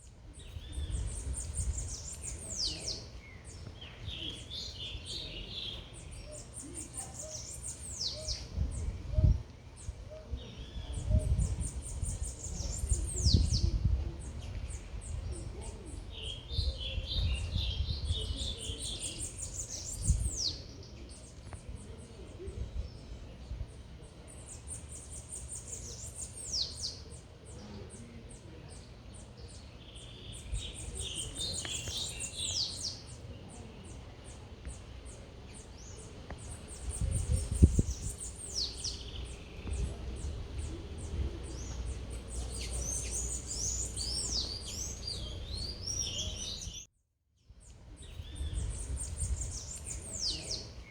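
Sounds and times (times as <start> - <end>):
songbirds whistling and chirping: 0.0 - 46.9, 47.6 - 50.9.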